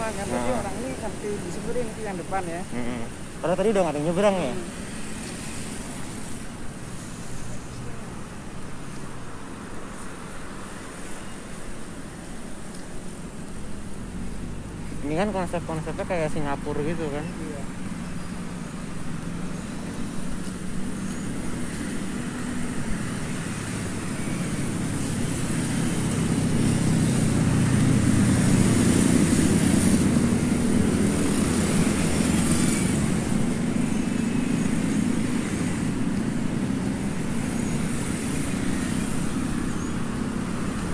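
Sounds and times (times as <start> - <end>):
cars passing: 0.0 - 40.9
motorbikes passing: 0.0 - 40.9.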